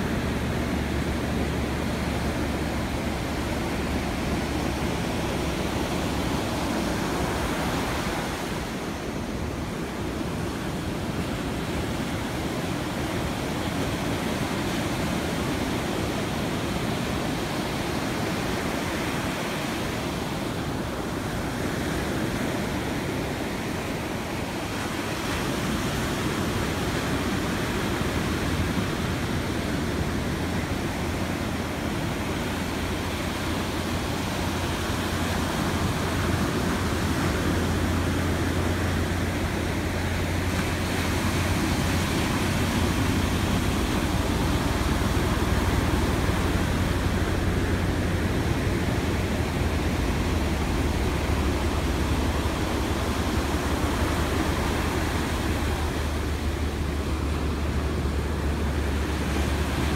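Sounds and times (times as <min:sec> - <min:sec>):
surf washing up beach: 0:00.0 - 0:59.9.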